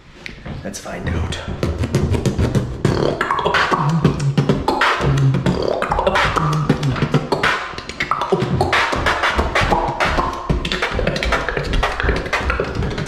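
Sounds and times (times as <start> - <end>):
beatboxing: 0.3 - 13.0.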